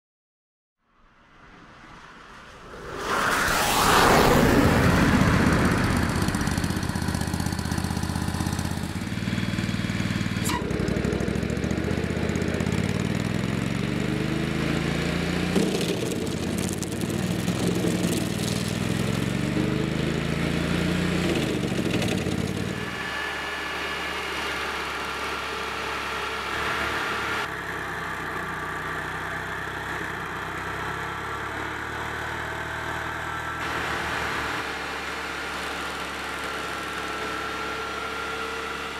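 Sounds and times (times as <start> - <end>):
stump grinder engine running hard: 4.1 - 38.9
cutter wheel grinding stump: 5.4 - 38.9.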